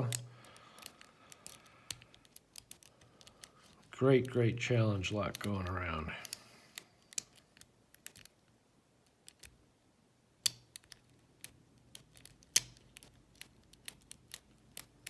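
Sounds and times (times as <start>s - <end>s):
lock pick clicking and scraping: 0.0s - 4.3s, 5.2s - 8.4s, 9.0s - 9.6s, 10.4s - 15.0s.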